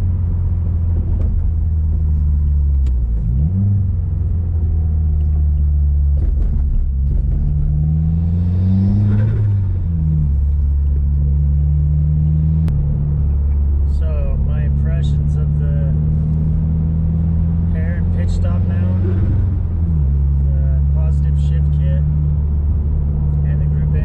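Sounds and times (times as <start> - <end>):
car engine revving from cabin: 0.0 - 24.0.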